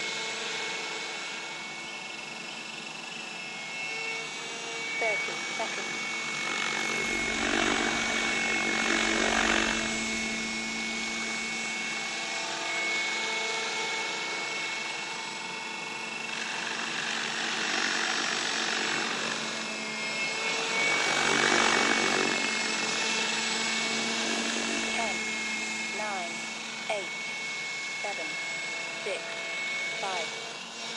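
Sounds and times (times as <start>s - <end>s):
rc helicopter rotor and motor hum: 0.0s - 30.9s.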